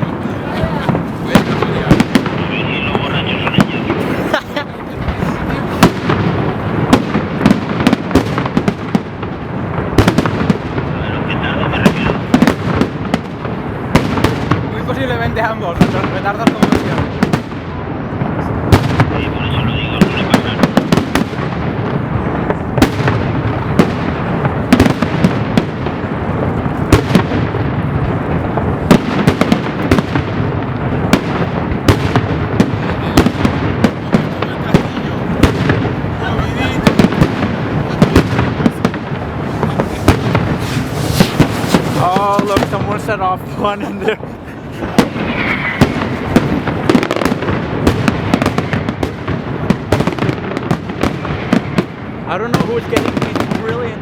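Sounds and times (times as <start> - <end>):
fireworks crackling and rumbling: 0.0 - 54.0
fireworks loud bangs: 0.0 - 54.0.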